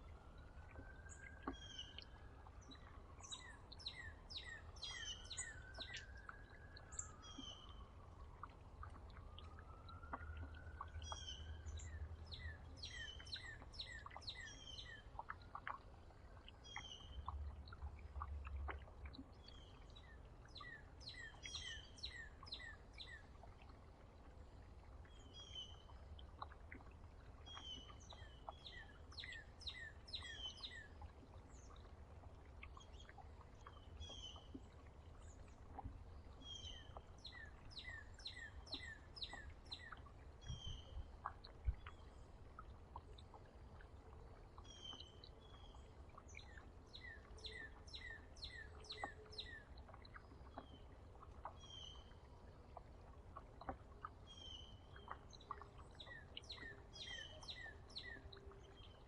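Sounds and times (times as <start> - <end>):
faint low rumble: 0.0 - 59.0
songbirds chirping: 0.0 - 59.0.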